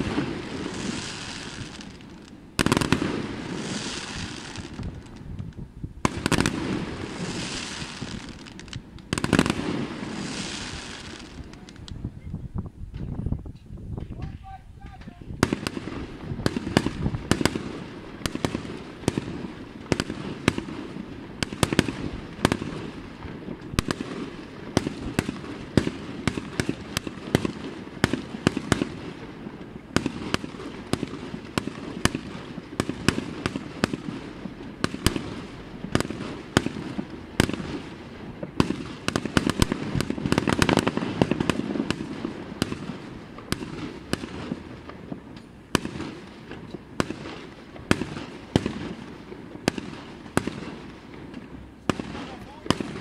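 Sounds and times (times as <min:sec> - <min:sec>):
fireworks bangs and pops: 0:00.0 - 0:53.0.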